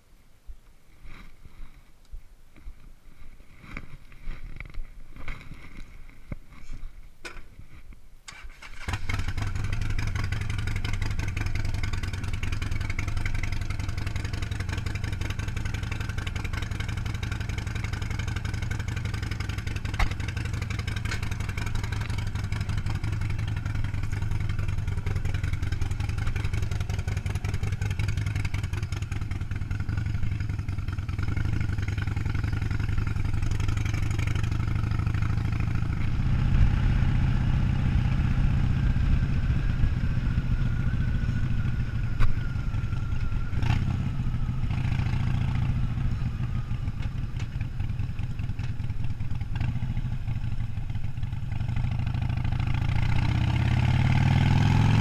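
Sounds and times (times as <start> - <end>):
motorcycle engine starting and idling: 8.3 - 55.0.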